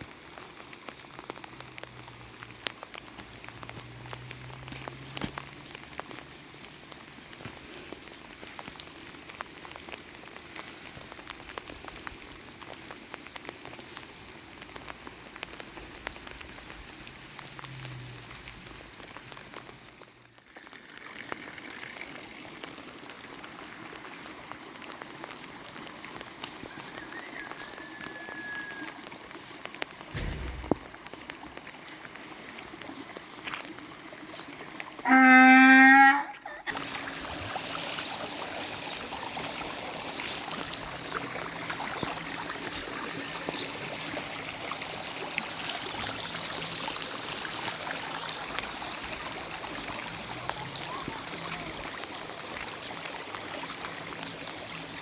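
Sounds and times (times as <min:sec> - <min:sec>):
rain: 0:00.0 - 0:55.0
running water: 0:00.0 - 0:55.0.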